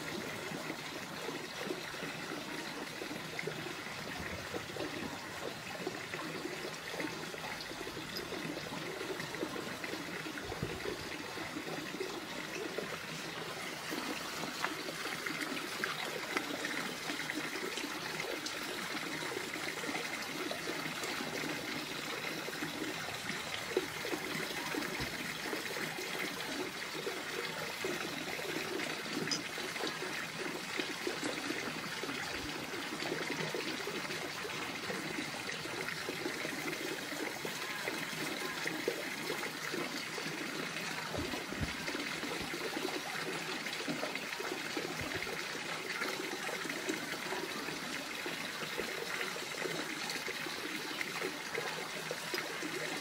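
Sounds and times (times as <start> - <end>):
running water trickling: 0.0 - 53.0.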